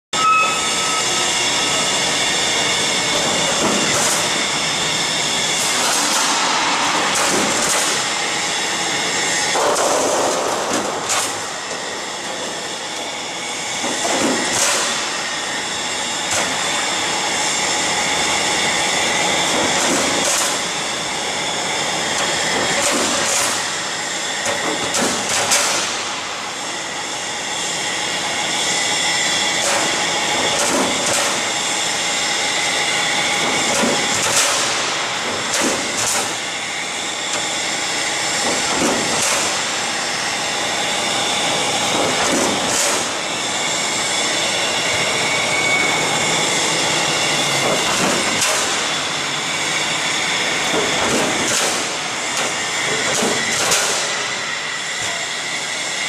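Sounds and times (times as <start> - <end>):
machine whining tones: 0.2 - 56.0
roll forming machine running: 0.2 - 56.0.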